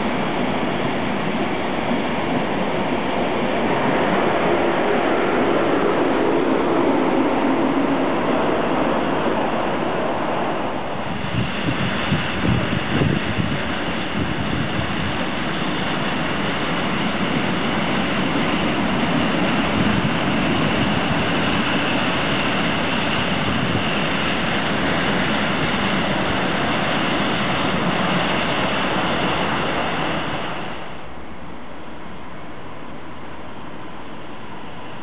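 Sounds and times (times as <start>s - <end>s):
diesel locomotive engine drone: 0.0s - 35.0s
rail noise: 0.0s - 35.0s.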